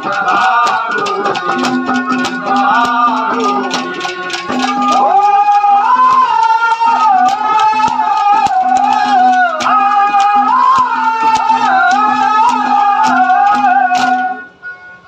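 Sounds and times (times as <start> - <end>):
hand-drum strokes: 0.0 - 14.5.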